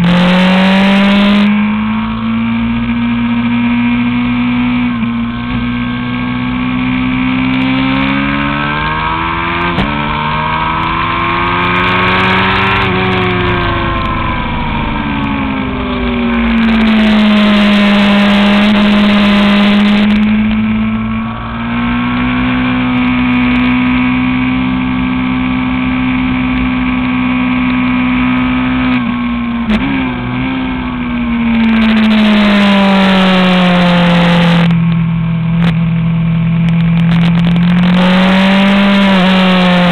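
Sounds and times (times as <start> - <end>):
motorcycle engine on track: 0.0 - 39.9.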